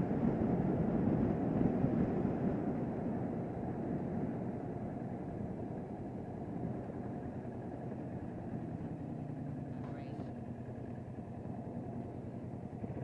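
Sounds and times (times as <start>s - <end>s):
motorcycle engine running: 0.0s - 13.0s
road rumble: 0.0s - 13.0s
wind: 0.0s - 13.0s.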